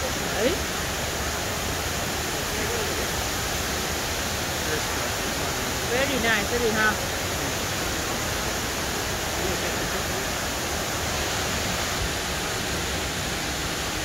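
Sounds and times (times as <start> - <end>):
indoor waterfall rushing: 0.0 - 14.0.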